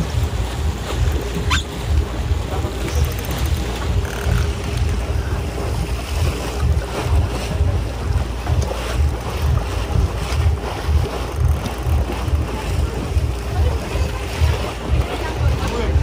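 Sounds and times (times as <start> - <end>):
sea water washing around boat: 0.0 - 16.0.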